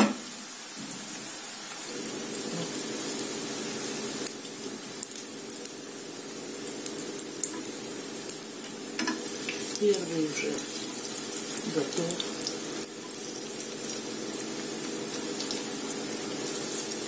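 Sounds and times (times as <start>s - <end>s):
fritters sizzling in hot oil: 0.0s - 17.0s.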